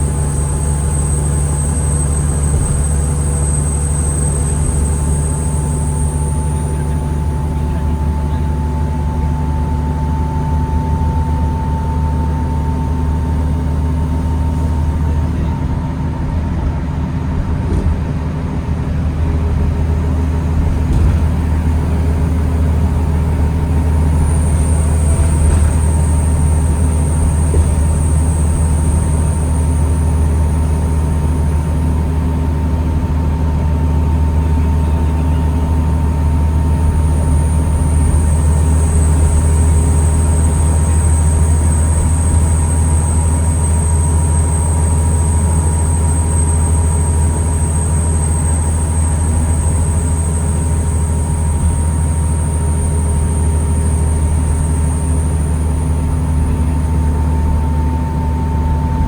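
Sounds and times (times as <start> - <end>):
thin high whine: 0.0 - 9.5, 20.6 - 59.0
bus engine rumble: 0.0 - 59.0
mid-pitched whine: 0.0 - 59.0.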